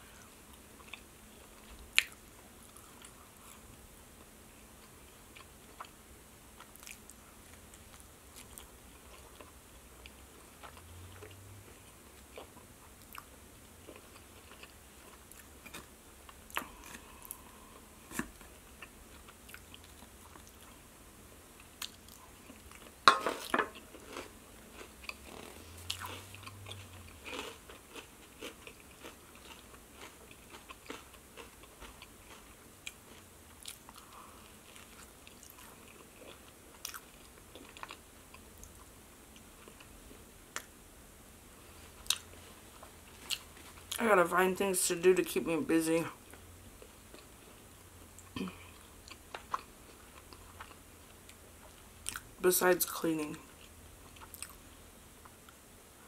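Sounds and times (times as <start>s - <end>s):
person chewing and crunching food: 0.0s - 6.0s, 6.6s - 20.8s, 21.5s - 40.8s, 41.6s - 44.0s, 46.2s - 52.4s, 53.4s - 55.6s.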